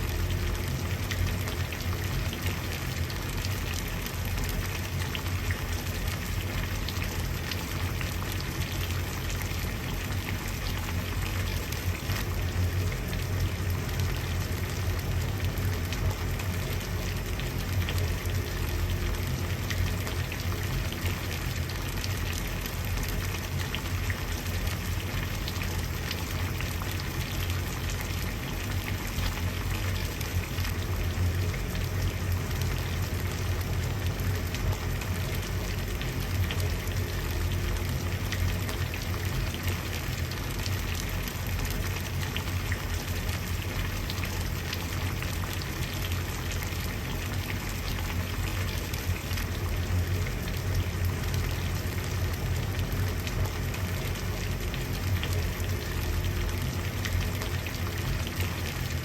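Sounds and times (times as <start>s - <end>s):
water boiling and bubbling: 0.0s - 59.0s.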